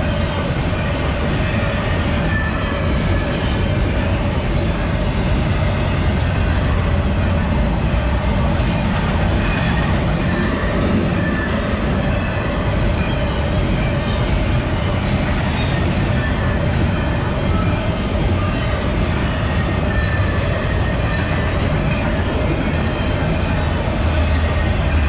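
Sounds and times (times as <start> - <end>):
train wheels rumbling and rattling: 0.0 - 25.0.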